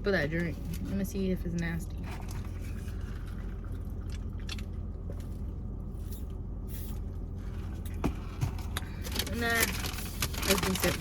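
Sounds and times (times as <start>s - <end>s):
car low hum: 0.0s - 11.0s.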